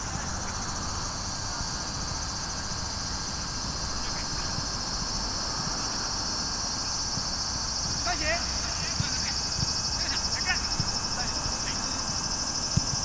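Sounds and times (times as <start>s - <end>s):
high-pitched insect drone: 0.1s - 13.0s.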